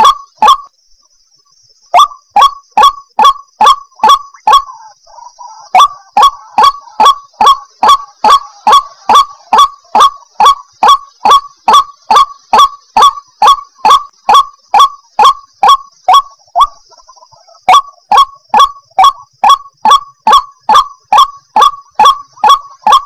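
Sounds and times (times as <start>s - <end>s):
waterhen honking call: 0.0s - 0.7s, 2.0s - 23.0s.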